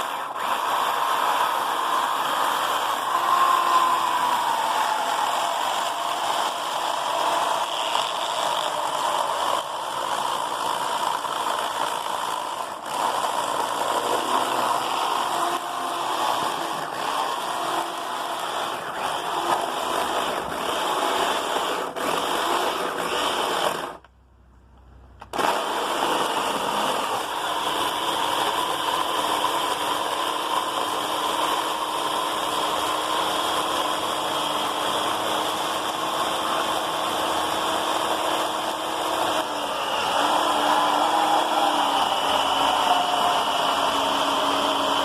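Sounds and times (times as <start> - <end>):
electric chainsaw cutting logs: 0.0 - 24.1, 25.2 - 45.0.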